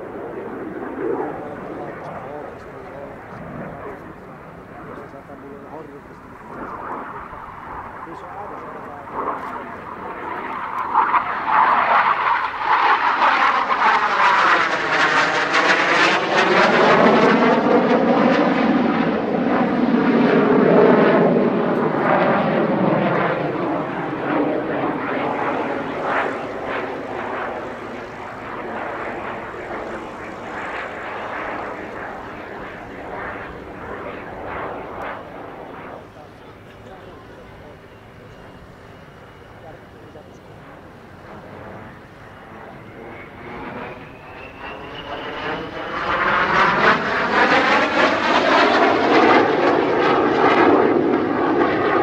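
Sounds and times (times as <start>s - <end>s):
jet flying past: 0.0s - 52.0s.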